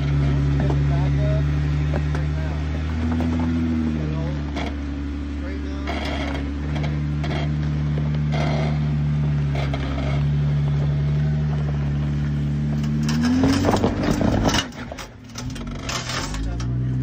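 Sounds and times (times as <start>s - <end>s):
off-road engine running and revving: 0.0s - 17.0s.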